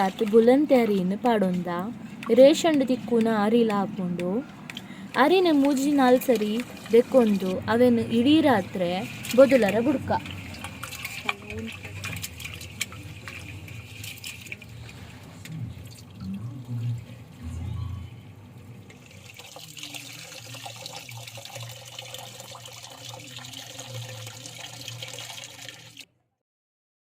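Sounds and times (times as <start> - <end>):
rice washed in sloshing water: 0.0 - 17.2, 18.9 - 26.0.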